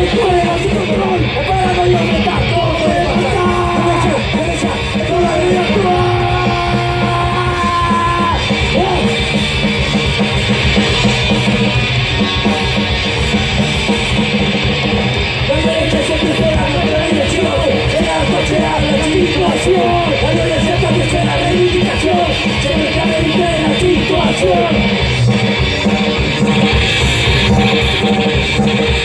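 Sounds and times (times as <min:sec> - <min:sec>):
punk rock band playing: 0:00.0 - 0:29.0.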